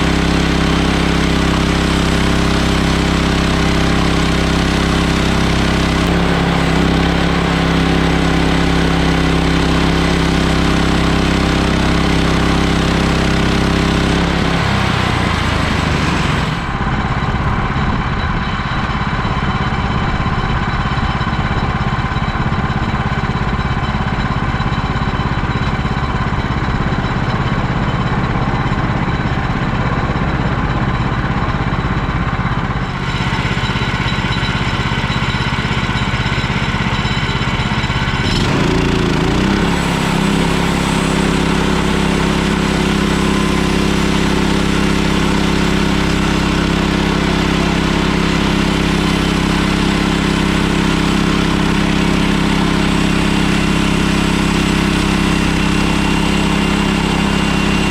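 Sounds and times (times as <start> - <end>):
sawmill gasoline engine running: 0.0 - 57.9.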